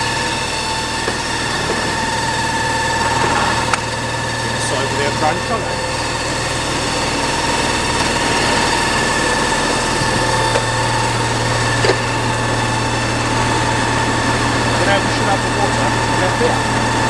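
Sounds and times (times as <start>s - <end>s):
constant hum: 0.0s - 17.0s
pump whine: 0.0s - 17.0s.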